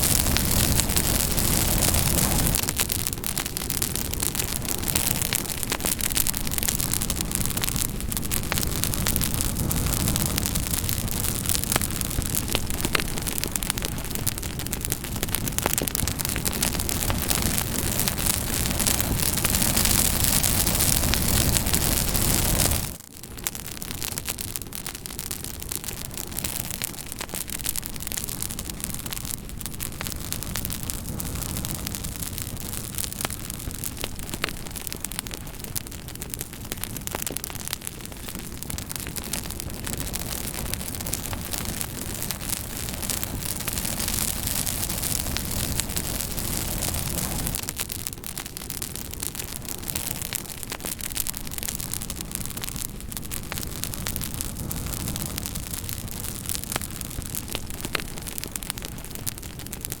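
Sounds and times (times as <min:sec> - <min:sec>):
burning wood crackling and popping: 0:00.0 - 1:00.0
campfire hissing: 0:00.0 - 1:00.0.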